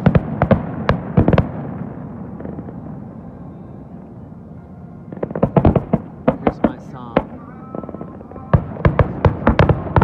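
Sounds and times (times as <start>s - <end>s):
fireworks bangs: 0.0s - 3.1s, 5.1s - 10.0s.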